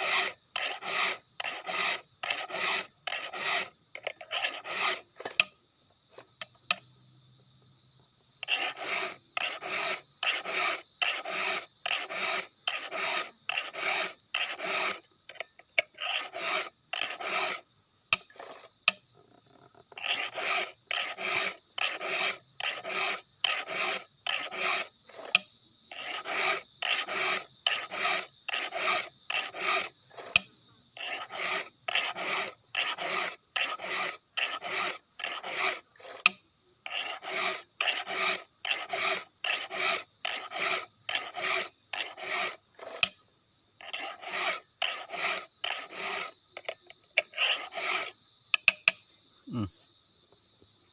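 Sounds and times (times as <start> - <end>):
file rasping on chainsaw chain: 0.0 - 5.5, 8.4 - 43.2, 43.8 - 49.0.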